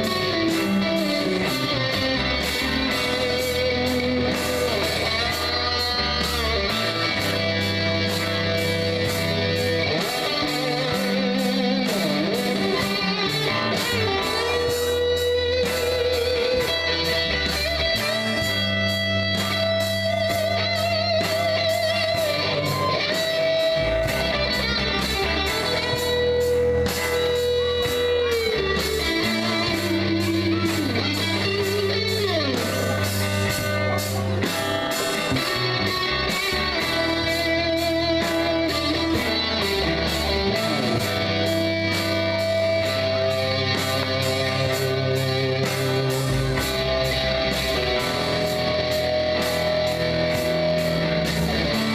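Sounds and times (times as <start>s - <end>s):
bass notes: 0.0s - 51.9s
electric lead guitar: 0.0s - 51.9s
rhythm guitar: 0.0s - 51.9s
steady drum beat: 0.0s - 51.9s.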